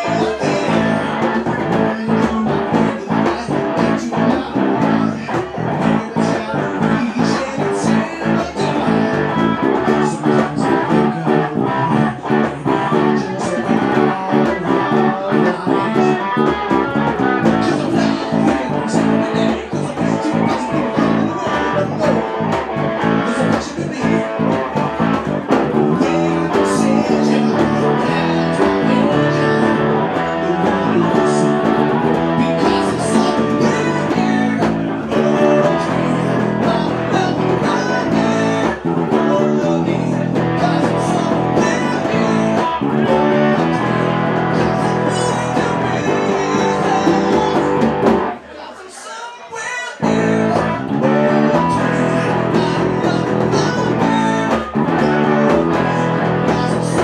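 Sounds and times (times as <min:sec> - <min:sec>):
bass guitar: 0:00.0 - 0:48.5, 0:50.0 - 0:57.0
electric guitar: 0:00.0 - 0:48.5, 0:50.0 - 0:57.0.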